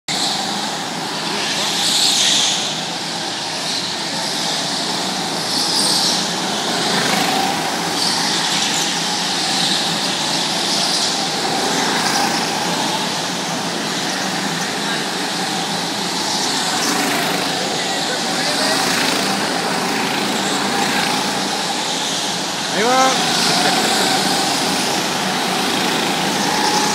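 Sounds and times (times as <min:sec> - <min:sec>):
go-kart engines whining: 0:00.1 - 0:26.9.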